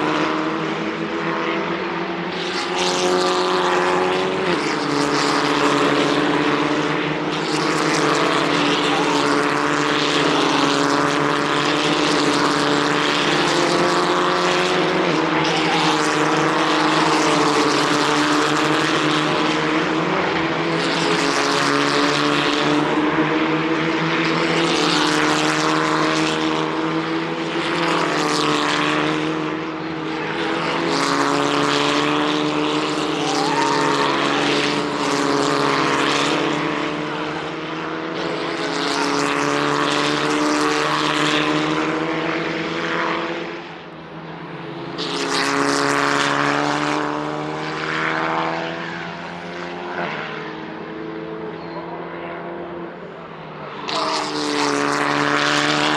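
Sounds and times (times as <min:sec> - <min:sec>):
race cars passing: 0:00.0 - 0:55.9
steady drone of engines: 0:00.0 - 0:55.9.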